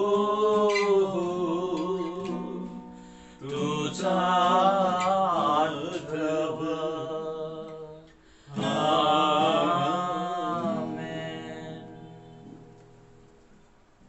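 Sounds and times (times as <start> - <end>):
solo voice singing a hymn: 0.0 - 12.4.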